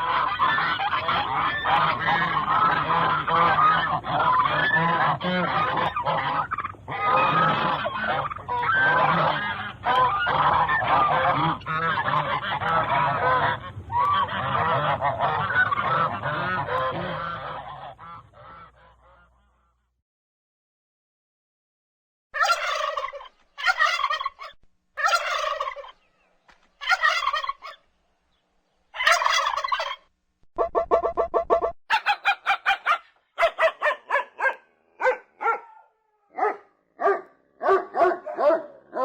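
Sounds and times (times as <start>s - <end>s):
turkey gobbling: 0.0s - 19.7s, 22.4s - 27.8s, 28.9s - 39.0s.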